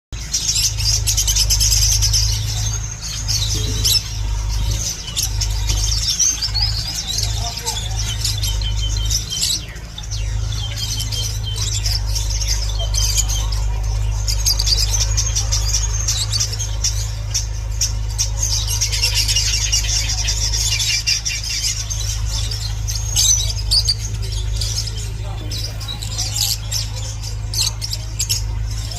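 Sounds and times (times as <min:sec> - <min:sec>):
finches chirping and chattering: 0:00.2 - 0:28.9.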